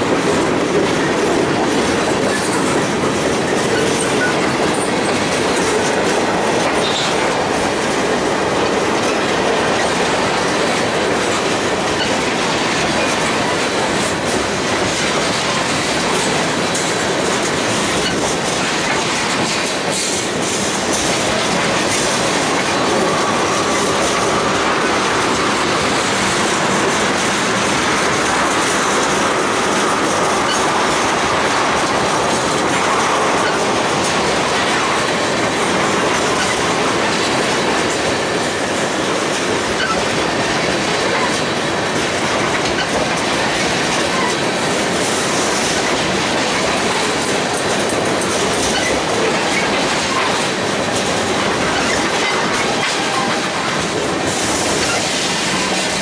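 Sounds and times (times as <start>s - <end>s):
train wheels rumbling: 0.0s - 56.0s
wheels clicking over rail joints: 0.0s - 56.0s.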